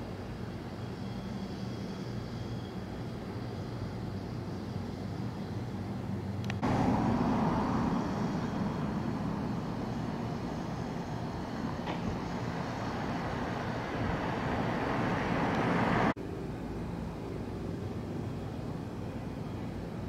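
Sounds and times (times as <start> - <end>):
vehicle noise rumble: 0.0 - 20.0.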